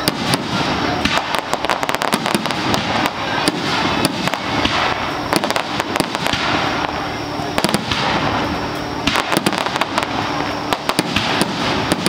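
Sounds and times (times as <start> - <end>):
continuous rumble: 0.0 - 12.0
fireworks bangs and crackles: 0.0 - 12.0.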